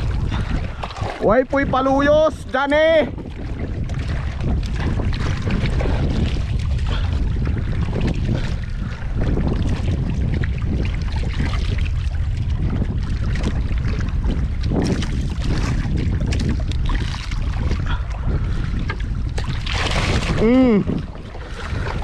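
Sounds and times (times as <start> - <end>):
water against boat hull: 0.0 - 22.0
wind buffeting microphone: 0.0 - 22.0.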